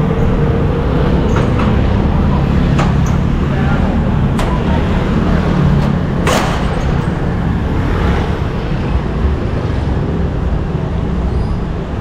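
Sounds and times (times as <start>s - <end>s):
cars and scooters passing: 0.0s - 12.0s.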